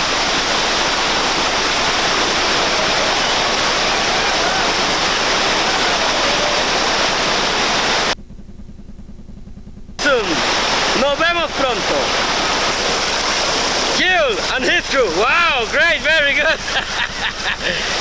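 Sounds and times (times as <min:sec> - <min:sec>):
whitewater rapid rushing: 0:00.0 - 0:08.2, 0:10.0 - 0:18.0
low hum: 0:00.0 - 0:14.4.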